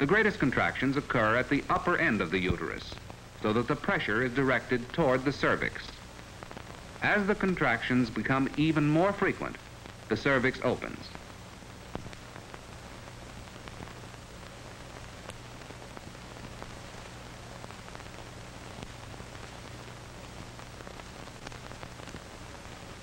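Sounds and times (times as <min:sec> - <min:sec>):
faint crackles: 0:00.0 - 0:23.0
film soundtrack hiss: 0:00.0 - 0:23.0.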